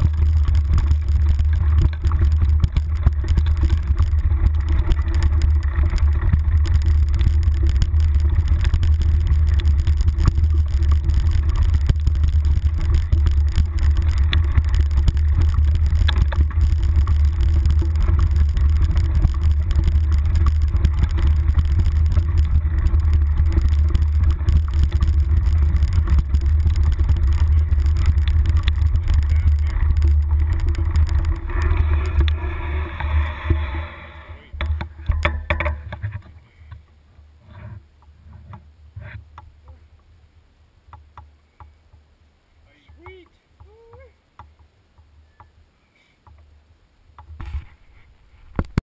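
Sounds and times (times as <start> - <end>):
faint rattles: 0.0 - 40.2
bike trail rumble: 0.0 - 48.8.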